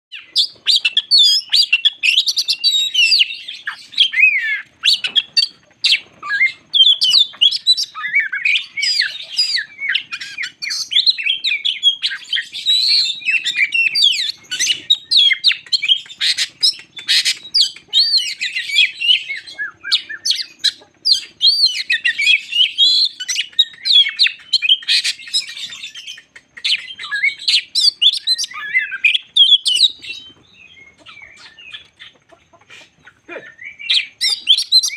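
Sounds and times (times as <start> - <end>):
bird singing whistles and trills: 0.1 - 32.1, 33.0 - 34.9.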